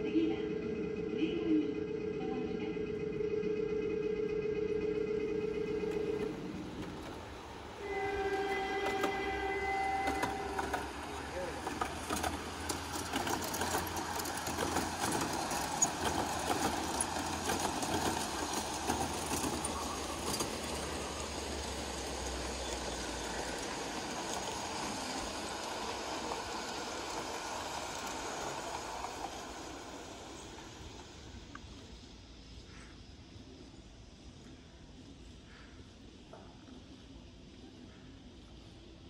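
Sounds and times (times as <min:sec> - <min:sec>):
model trains rolling on tracks: 0:00.0 - 0:39.0.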